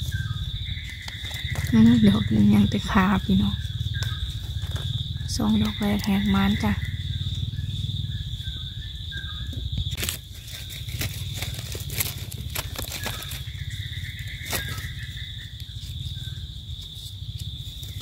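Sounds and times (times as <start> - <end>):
rustling in dry leaves: 0.0 - 8.6, 9.5 - 18.0
high-pitched insect drone: 0.0 - 18.0.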